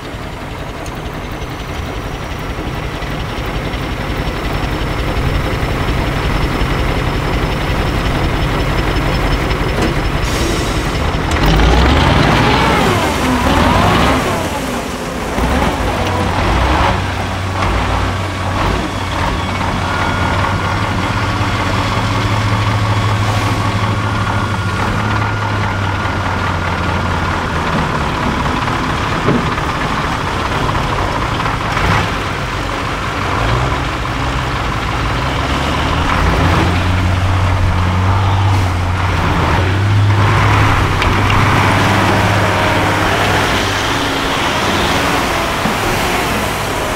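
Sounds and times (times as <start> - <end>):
diesel truck engine under load: 0.0 - 46.9.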